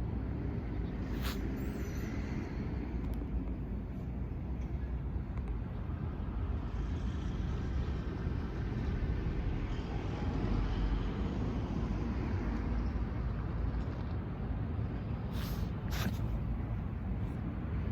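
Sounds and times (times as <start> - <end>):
low rumbling background noise: 0.0 - 17.9.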